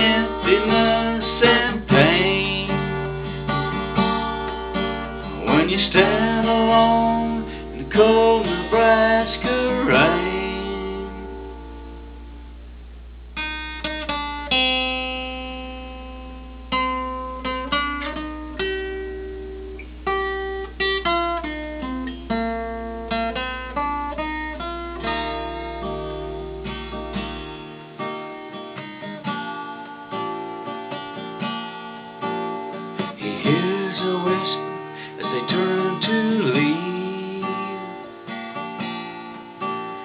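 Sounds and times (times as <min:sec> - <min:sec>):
acoustic guitar: 0:00.0 - 0:40.0.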